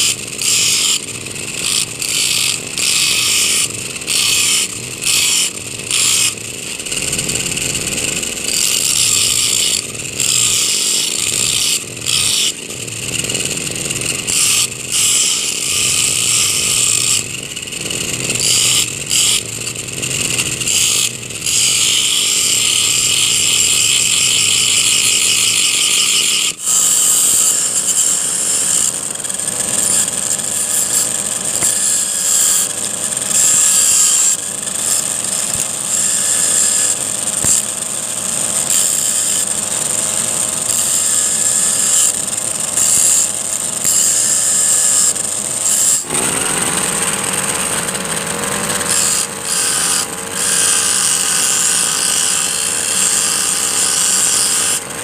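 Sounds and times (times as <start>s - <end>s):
metal disc grinding on file: 0.0s - 54.8s.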